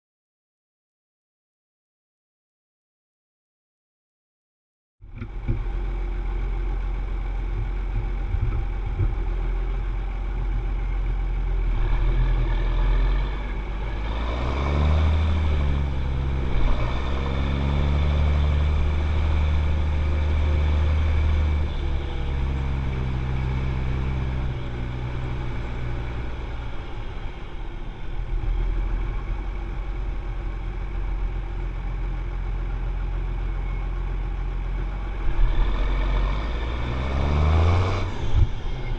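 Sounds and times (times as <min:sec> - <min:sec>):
tractor diesel engine running: 0:05.1 - 0:38.9.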